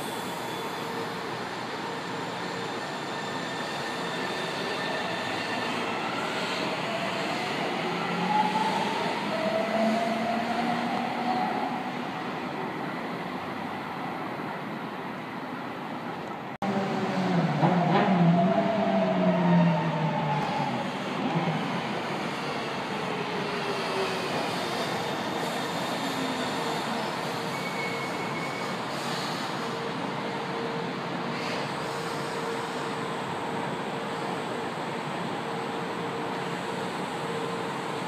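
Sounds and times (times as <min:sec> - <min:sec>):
metro train rumbling: 0:00.0 - 0:38.0.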